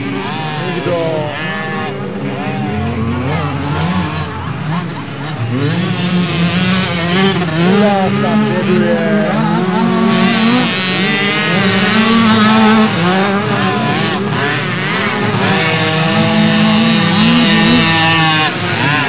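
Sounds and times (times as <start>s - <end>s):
motocross motorcycles revving: 0.0s - 19.0s.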